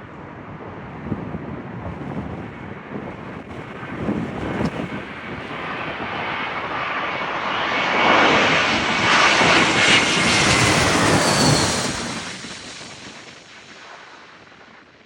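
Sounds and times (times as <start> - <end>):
wind buffeting microphone: 0.0 - 13.4
jet airliner flying past: 0.0 - 14.8.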